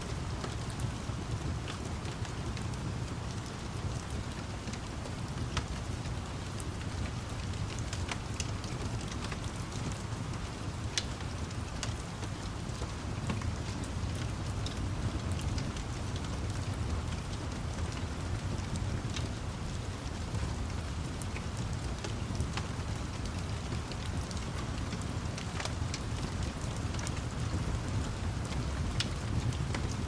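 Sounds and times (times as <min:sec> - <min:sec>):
steady rain: 0:00.0 - 0:30.0
wood fire crackling: 0:00.0 - 0:30.0.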